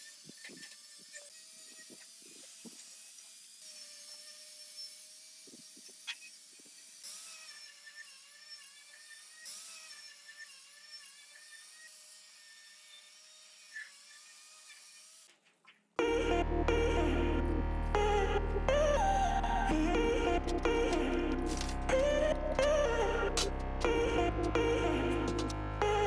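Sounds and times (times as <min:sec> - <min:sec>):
small motor whining: 0:00.0 - 0:15.3, 0:16.0 - 0:26.0.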